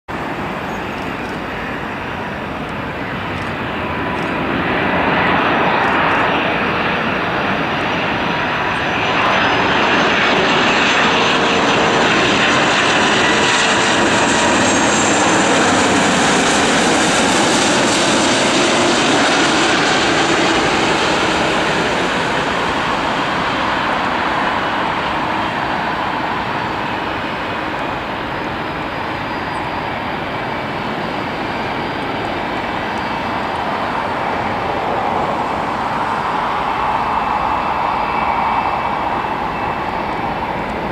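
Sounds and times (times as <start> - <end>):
jet airliner passing: 0.1 - 40.9
gliding engine whine: 0.2 - 40.9.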